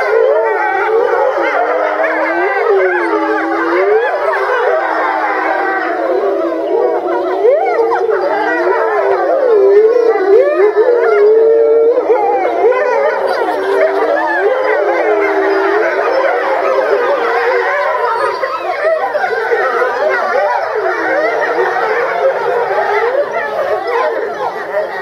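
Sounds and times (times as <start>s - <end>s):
wolves howling in chorus: 0.0s - 25.0s.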